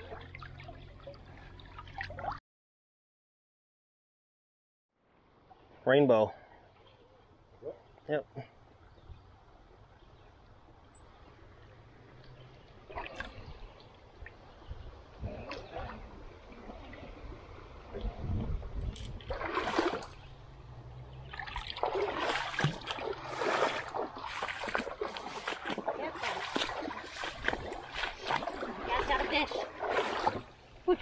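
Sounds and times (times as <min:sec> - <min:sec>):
river water splashing: 0:00.0 - 0:02.4, 0:06.5 - 0:31.0.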